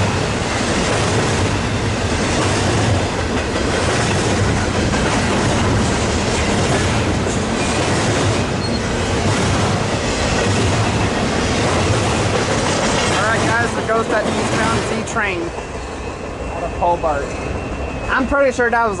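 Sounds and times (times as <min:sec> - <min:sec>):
clickety-clack over rail joints: 0:00.0 - 0:16.0
freight train wheels rumbling on rails: 0:00.0 - 0:19.0.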